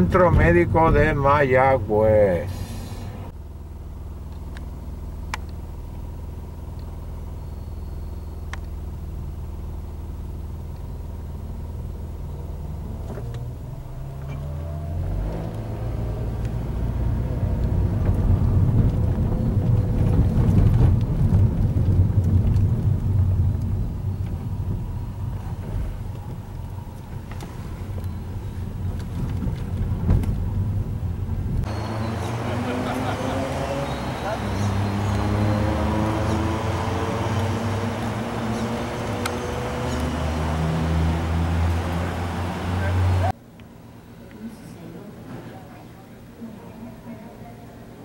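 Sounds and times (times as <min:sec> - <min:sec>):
car engine and road noise: 0:00.0 - 0:45.2.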